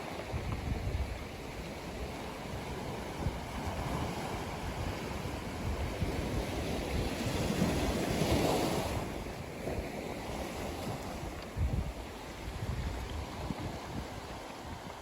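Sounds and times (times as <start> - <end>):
ocean waves washing on beach: 0.0 - 15.0
wind rumble on microphone: 0.0 - 15.0.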